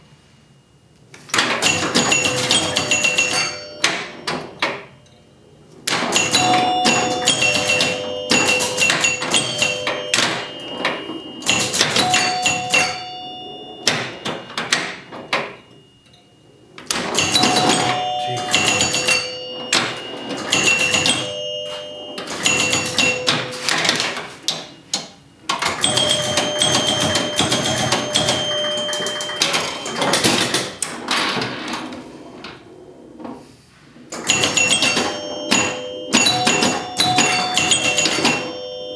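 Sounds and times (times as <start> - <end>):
pinball machine clacking: 1.2 - 5.1, 5.8 - 16.1, 16.7 - 33.3, 34.0 - 38.9
pinball chime bells ringing: 1.3 - 32.0, 34.2 - 38.9.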